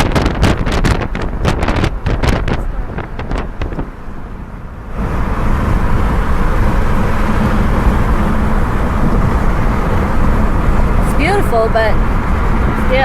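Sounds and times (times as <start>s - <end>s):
road and wind noise in car: 0.0s - 13.0s.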